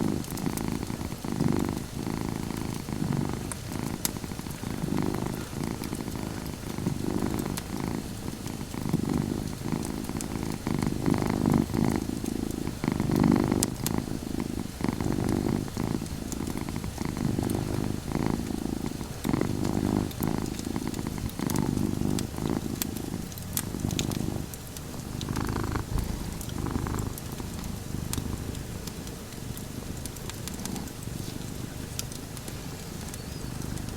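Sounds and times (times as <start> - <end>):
cat purring: 0.0 - 33.9
wood fire crackling: 0.0 - 33.9.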